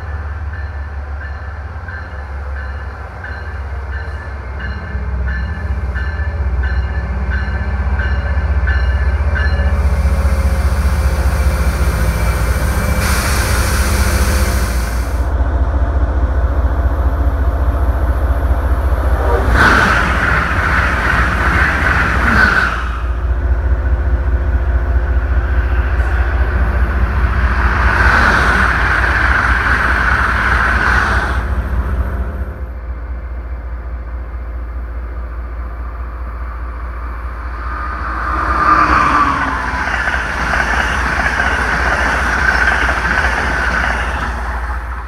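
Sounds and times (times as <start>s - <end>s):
train passing close by: 0.0s - 45.0s
train wheel-on-rail noise: 0.0s - 45.0s.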